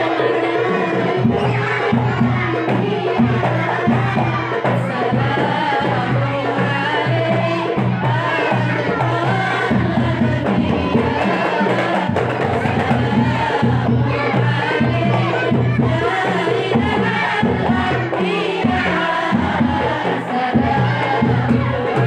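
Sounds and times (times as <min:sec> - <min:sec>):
hand drums beat: 0:00.0 - 0:22.0
voices singing devotional song: 0:00.0 - 0:22.0.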